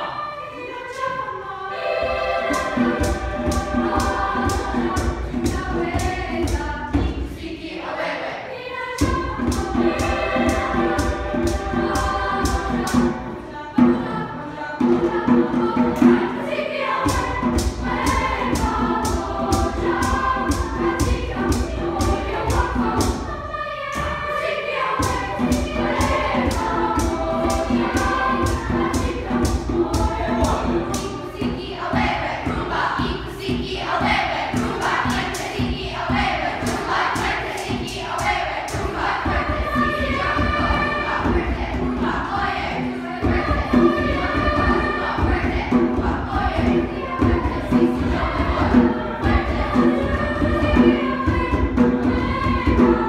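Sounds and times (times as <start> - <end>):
youth choir singing: 0.0 - 53.0
hand drum beat: 2.4 - 7.4, 9.0 - 14.2, 17.0 - 23.4, 25.0 - 53.0.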